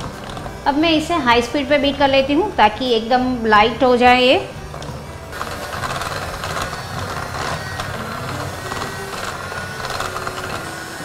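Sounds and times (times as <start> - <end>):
electric hand mixer whining: 0.0 - 11.0.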